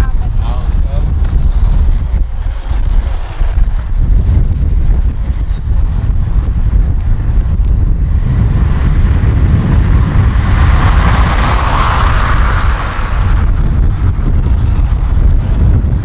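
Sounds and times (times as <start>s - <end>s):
heavy low rumble: 0.0s - 16.0s
wind buffeting microphone: 0.0s - 16.0s.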